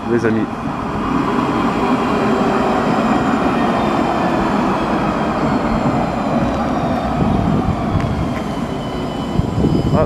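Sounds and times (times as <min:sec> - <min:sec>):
tram wheels rolling on rail: 0:00.0 - 0:10.0.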